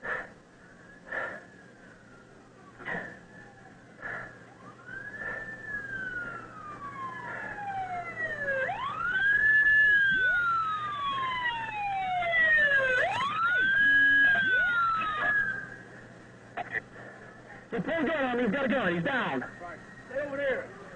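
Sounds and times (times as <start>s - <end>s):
police sirens wailing: 0.0s - 20.9s.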